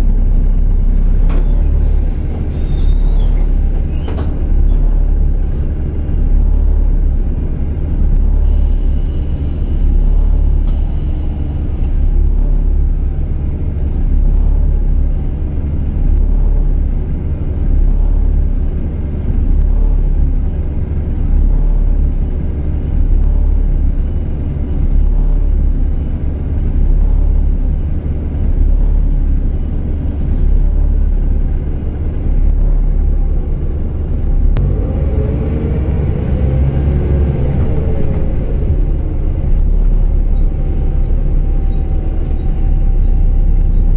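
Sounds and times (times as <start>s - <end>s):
bus engine rumbling: 0.0s - 43.9s.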